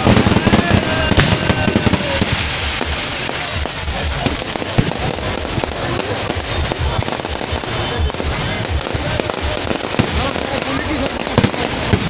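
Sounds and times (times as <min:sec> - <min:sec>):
fireworks crackling: 0:00.0 - 0:12.0
low firework thuds: 0:00.0 - 0:12.0.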